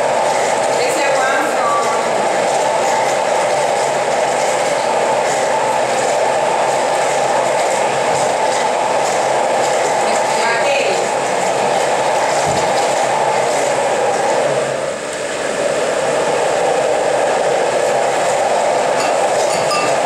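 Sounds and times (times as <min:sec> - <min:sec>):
blender running: 0:00.0 - 0:20.0.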